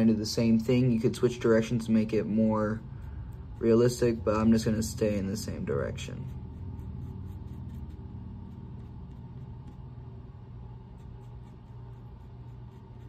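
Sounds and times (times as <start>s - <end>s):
faint hum tone: 0.0s - 13.0s
low background rumble: 0.0s - 13.0s.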